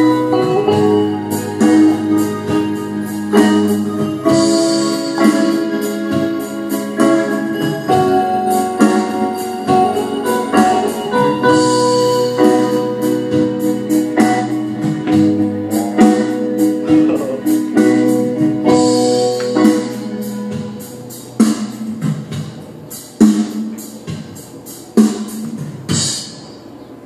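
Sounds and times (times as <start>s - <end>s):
keyboard chords over steady beat: 0.0s - 27.0s.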